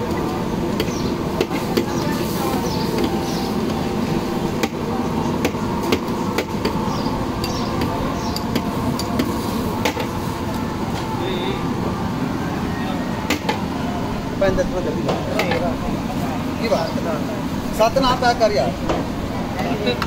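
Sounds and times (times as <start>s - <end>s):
crowd chatter: 0.0s - 20.0s.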